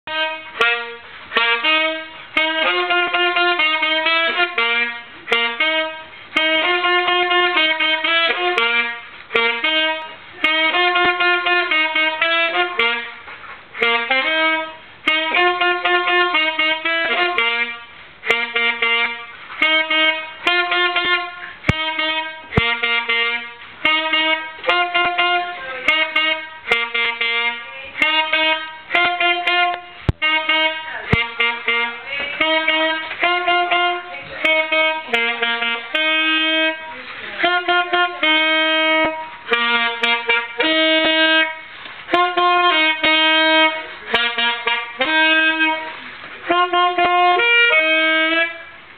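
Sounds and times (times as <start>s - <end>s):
brass-like wind instrument melody: 0.0s - 48.9s.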